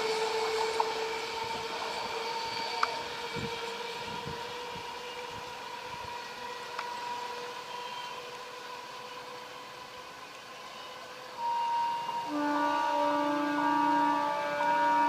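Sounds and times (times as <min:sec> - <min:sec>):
train running on track: 0:00.0 - 0:15.0.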